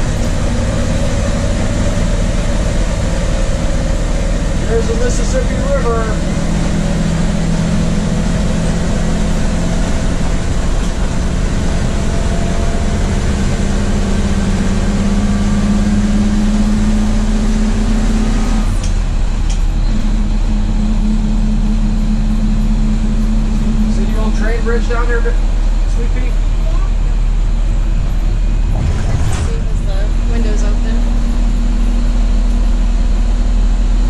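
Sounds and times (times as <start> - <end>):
bus engine droning: 0.0 - 34.0
road and wind noise: 0.0 - 34.0.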